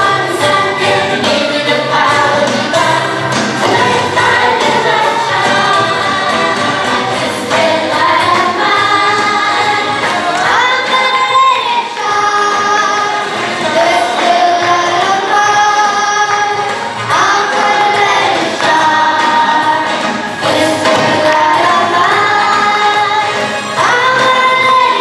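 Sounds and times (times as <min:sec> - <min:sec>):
group singing church song: 0:00.0 - 0:25.0
musical backing: 0:00.0 - 0:25.0.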